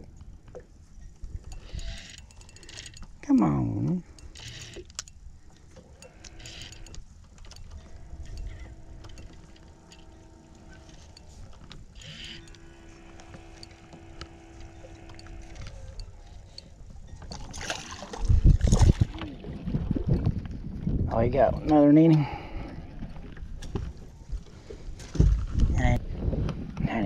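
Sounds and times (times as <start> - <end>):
steady low hum: 0.0 - 26.8
wind rumbling on microphone: 0.0 - 27.0.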